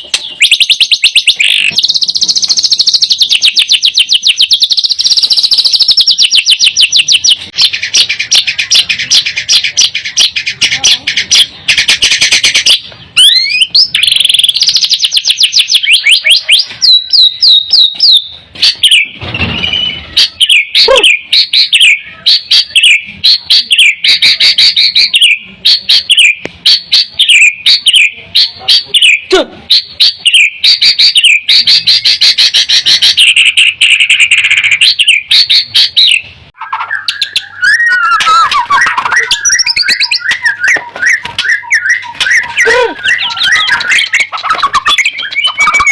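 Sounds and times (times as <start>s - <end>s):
bird singing chirping notes: 0.0s - 45.9s.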